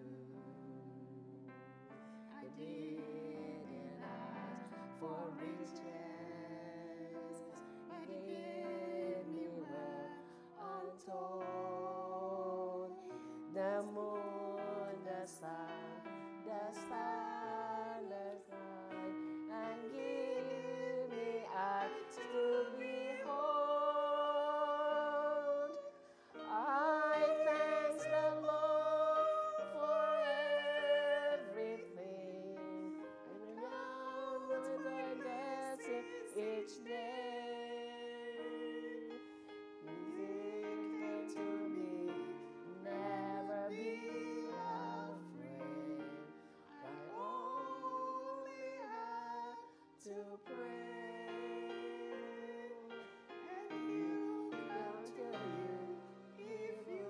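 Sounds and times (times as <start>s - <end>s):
woman singing a hymn: 2.3s - 39.2s, 39.9s - 52.9s, 53.5s - 57.0s.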